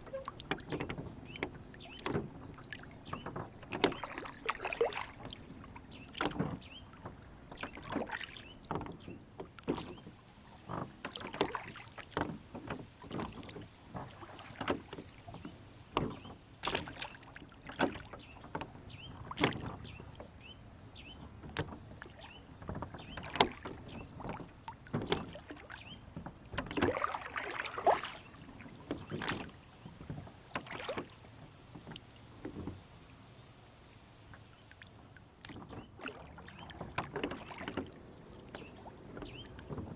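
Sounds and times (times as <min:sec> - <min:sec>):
oars knocking and splashing: 0:00.0 - 0:33.0, 0:34.3 - 0:39.9
water slapping boat hull: 0:00.0 - 0:39.9.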